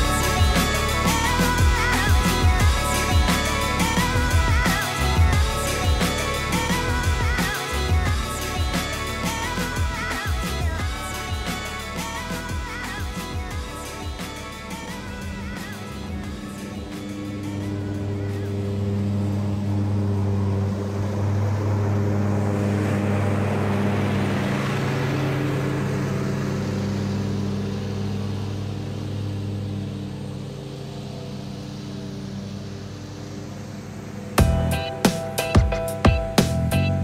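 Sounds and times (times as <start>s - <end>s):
hiss of grass cutting: 0.0s - 35.5s
lawn mower engine drone: 0.0s - 37.0s.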